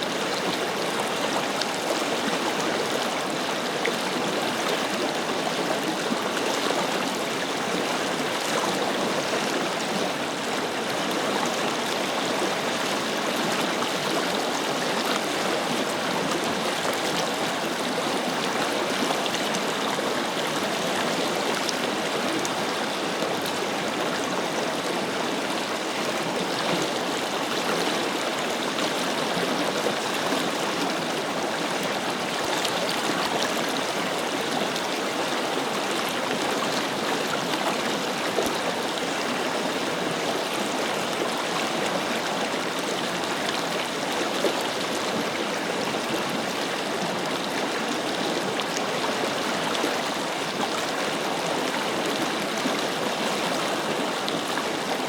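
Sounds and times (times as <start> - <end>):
river water rushing over stones: 0.0 - 55.0.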